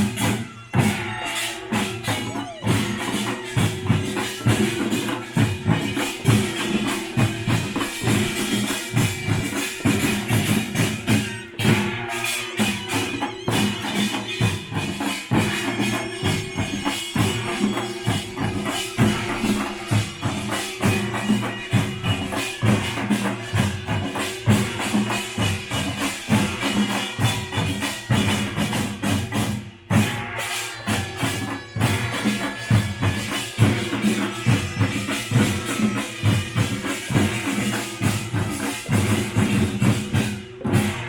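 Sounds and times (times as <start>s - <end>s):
percussion band drumming: 0.0s - 41.0s.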